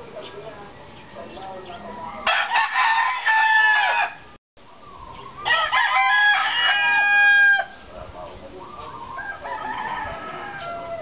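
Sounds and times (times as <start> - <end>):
roosters crowing: 0.2 - 11.0.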